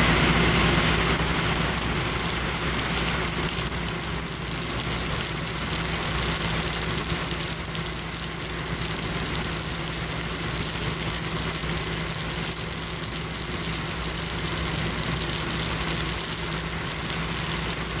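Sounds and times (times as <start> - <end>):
engine idling hum: 0.0 - 18.0
rain on wet pavement: 0.0 - 18.0.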